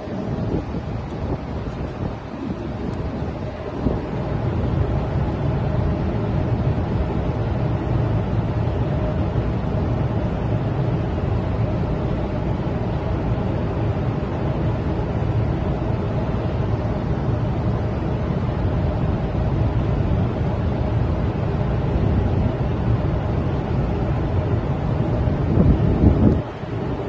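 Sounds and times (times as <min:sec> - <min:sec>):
ship engine rumble: 0:00.0 - 0:27.0
wind buffeting microphone: 0:00.0 - 0:27.0.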